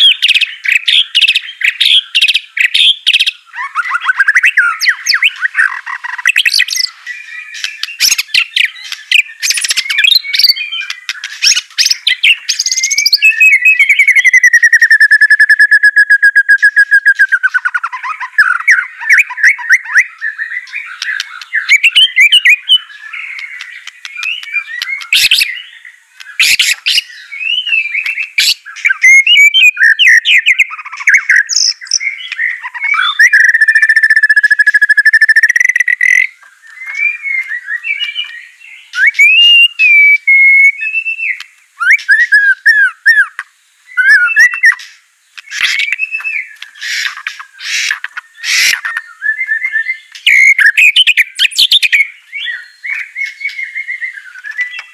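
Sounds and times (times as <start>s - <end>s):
bird trill: 0.0s - 54.9s
songbird whistling and chattering: 0.0s - 54.9s.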